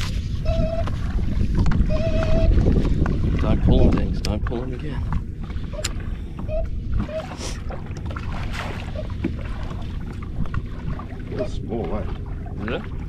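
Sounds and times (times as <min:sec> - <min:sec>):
water against boat hull: 0:00.0 - 0:13.0
wind rumbling on microphone: 0:00.0 - 0:13.0.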